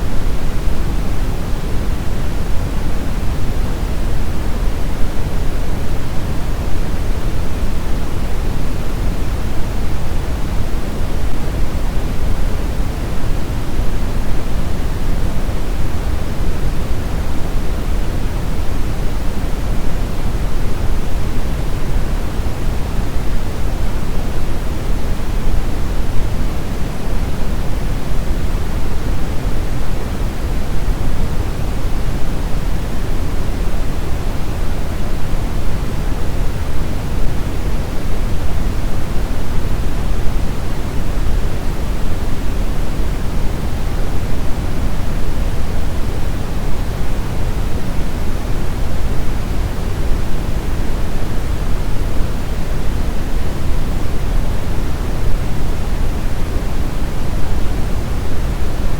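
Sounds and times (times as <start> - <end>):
loud brown noise hiss: 0.0 - 58.9.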